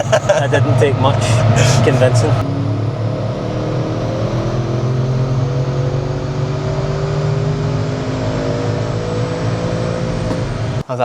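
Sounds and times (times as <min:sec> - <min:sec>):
car engine and exhaust drone: 0:00.0 - 0:11.0.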